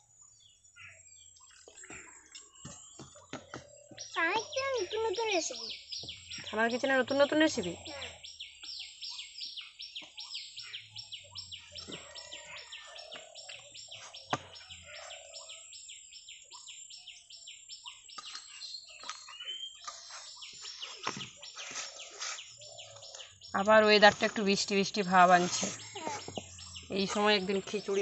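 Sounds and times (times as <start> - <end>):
bird chirping rapidly: 2.4 - 28.0.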